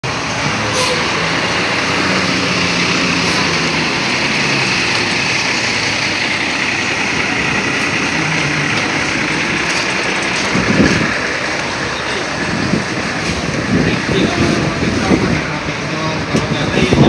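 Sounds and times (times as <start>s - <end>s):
bus engines running: 0.0s - 17.0s.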